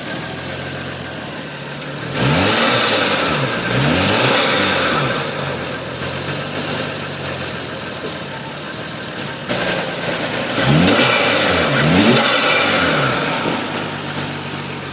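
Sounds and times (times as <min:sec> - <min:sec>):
car engine idling and revving: 0:00.0 - 0:14.9.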